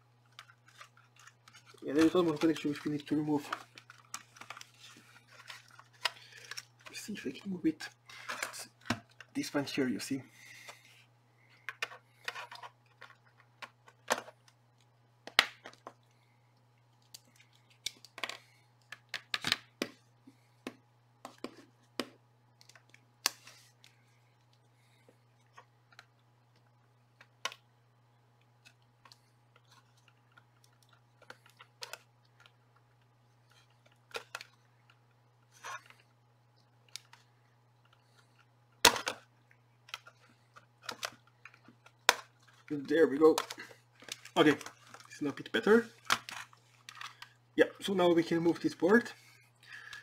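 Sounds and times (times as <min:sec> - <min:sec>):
faint low hum: 0:00.0 - 0:50.0.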